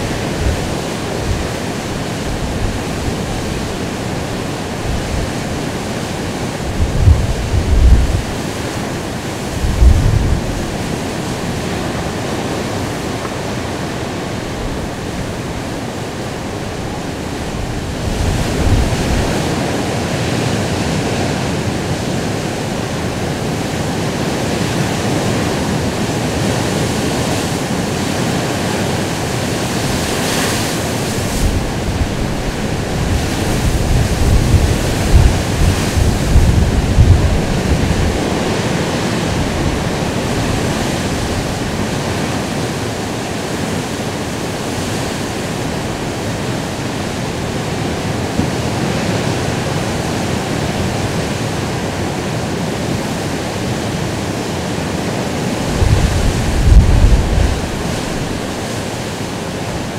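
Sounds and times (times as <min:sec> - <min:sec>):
waves breaking: 0:00.0 - 0:59.9
wind on microphone: 0:00.0 - 0:59.9.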